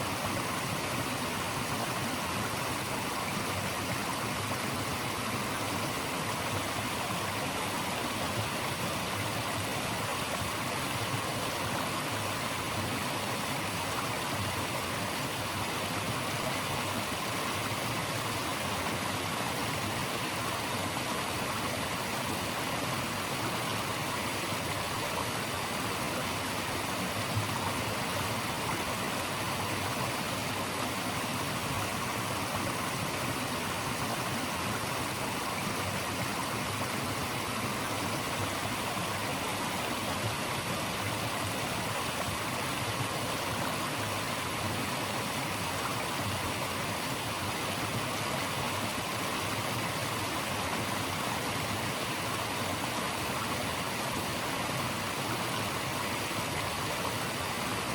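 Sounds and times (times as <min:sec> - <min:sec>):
water flowing in a stream: 0:00.0 - 0:57.9.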